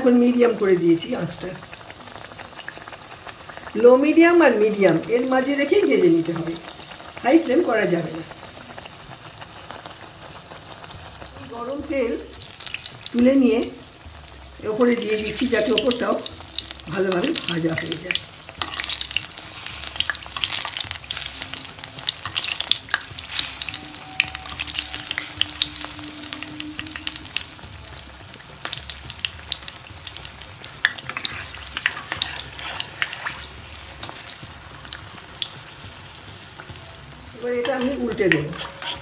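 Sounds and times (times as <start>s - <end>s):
batter deep-frying in oil: 0.0s - 39.0s.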